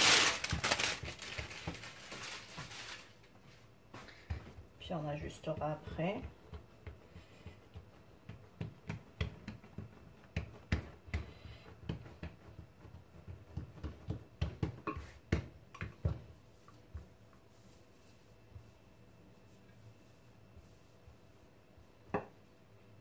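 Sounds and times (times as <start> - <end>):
hands patting dough: 0.0 - 23.0.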